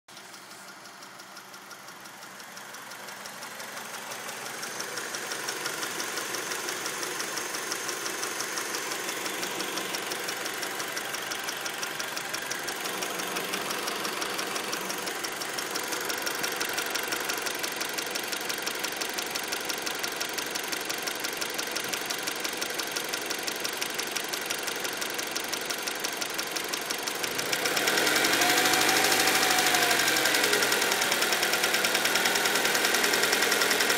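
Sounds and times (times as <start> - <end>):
car engine idling with ticking: 0.1 - 33.9
engine revving: 3.6 - 33.9.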